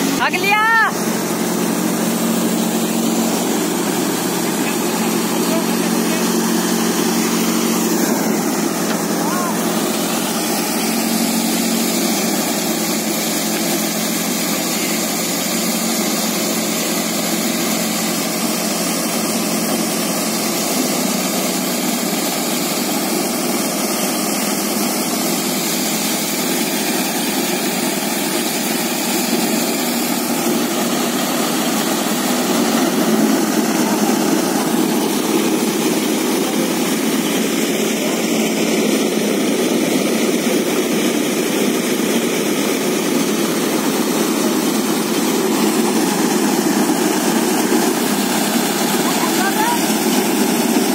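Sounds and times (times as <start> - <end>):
thresher drum and blower drone: 0.0 - 50.9
tractor engine hum: 0.0 - 50.9.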